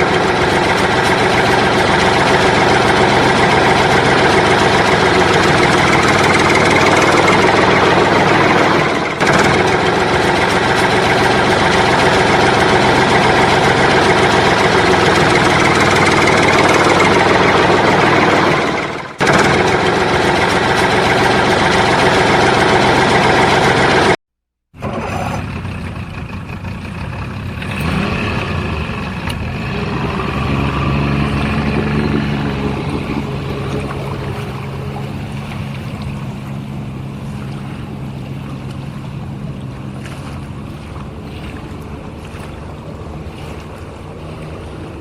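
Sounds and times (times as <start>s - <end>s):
machinery engine noise: 0.0s - 24.2s, 24.8s - 45.0s.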